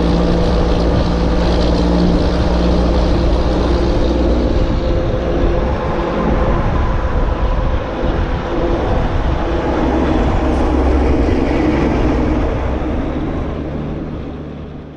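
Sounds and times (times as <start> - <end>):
heavy mechanical rumble: 0.0 - 14.9.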